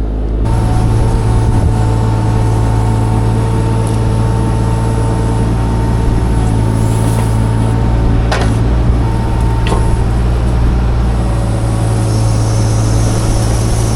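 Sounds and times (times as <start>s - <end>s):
excavator engine running: 0.0s - 13.9s
high-pitched whine: 0.0s - 13.9s.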